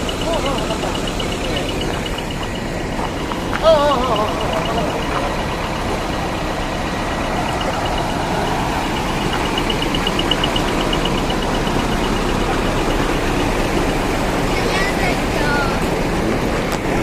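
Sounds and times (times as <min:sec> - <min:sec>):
rapid high-pitched pulsing: 0:00.0 - 0:17.0
truck diesel engines rumbling: 0:00.0 - 0:17.0.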